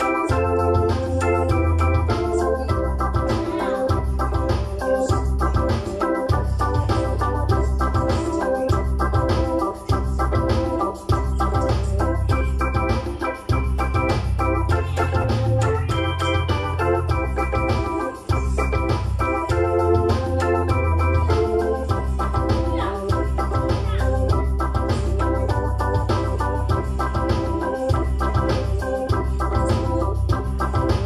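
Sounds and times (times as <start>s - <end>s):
electronic keyboard gospel chords: 0.0s - 31.0s.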